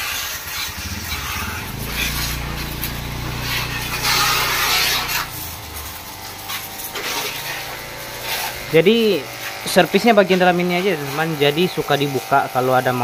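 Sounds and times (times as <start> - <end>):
pump motor humming: 0.5 - 11.6
water jet hissing: 0.5 - 11.9.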